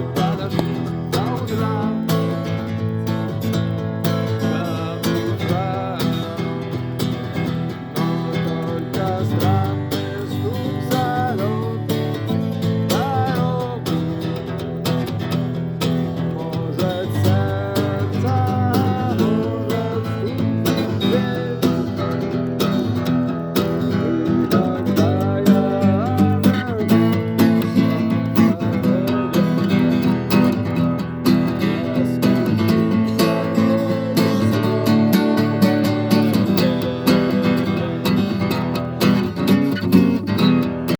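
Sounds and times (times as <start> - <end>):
acoustic guitar strumming: 0.0 - 40.9
person singing: 0.0 - 40.9.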